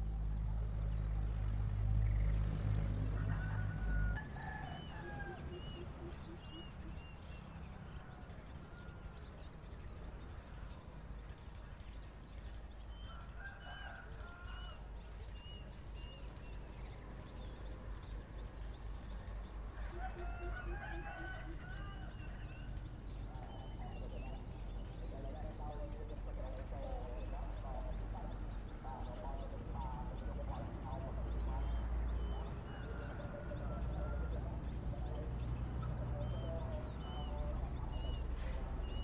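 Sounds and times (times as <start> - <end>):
small birds chirping: 0.0 - 39.0
long crowing bird call: 2.0 - 39.0.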